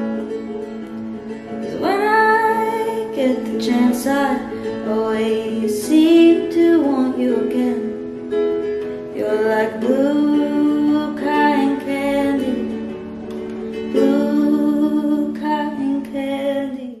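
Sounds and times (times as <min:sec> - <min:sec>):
acoustic guitar: 0:00.0 - 0:17.0
woman singing: 0:01.6 - 0:13.0, 0:13.7 - 0:17.0.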